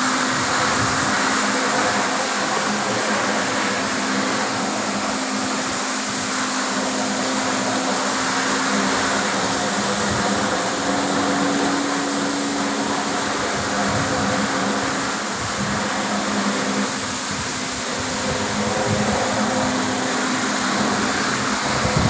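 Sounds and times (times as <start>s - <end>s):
floor scrubber motors whirring: 0.0s - 22.0s.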